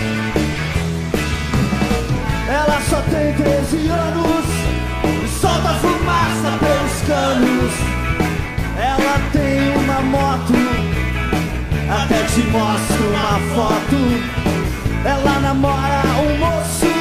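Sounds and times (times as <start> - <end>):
rock band playing: 0.0 - 17.0
steady drum beat: 0.0 - 17.0.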